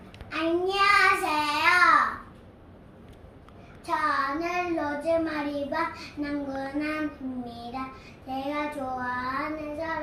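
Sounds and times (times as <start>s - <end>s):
girl singing: 0.3s - 2.3s, 3.8s - 10.0s.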